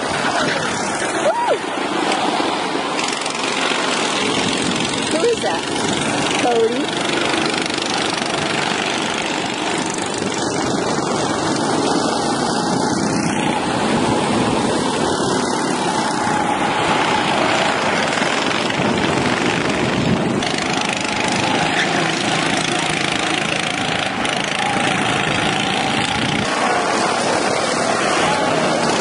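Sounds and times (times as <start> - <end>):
go-kart engines droning: 0.0 - 29.0.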